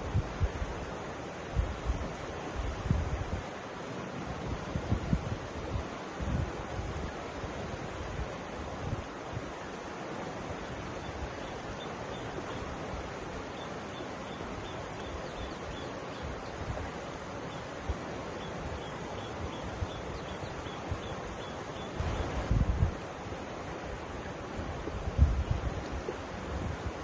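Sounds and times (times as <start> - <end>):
wind rumbling on microphone: 0.0 - 9.6, 14.3 - 27.0
river flowing over stones: 0.0 - 27.0.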